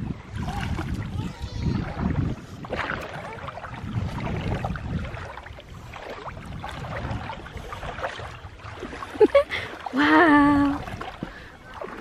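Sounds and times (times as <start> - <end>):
shallow water sloshing: 0.0 - 12.0
small splashes: 0.0 - 12.0.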